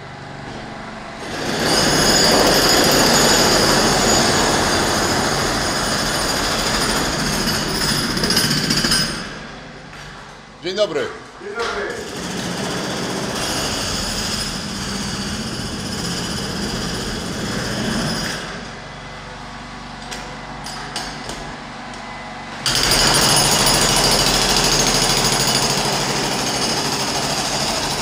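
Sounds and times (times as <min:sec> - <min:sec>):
construction machinery: 0:00.0 - 0:28.0.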